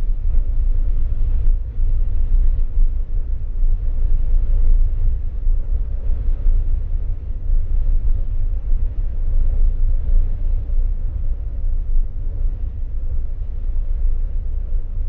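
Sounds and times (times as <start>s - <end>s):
deep low rumble: 0.0s - 15.0s.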